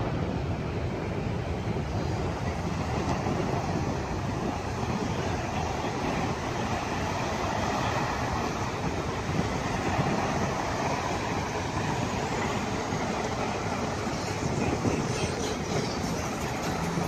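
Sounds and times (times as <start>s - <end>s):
jet airliner engine rumble: 0.0s - 17.0s.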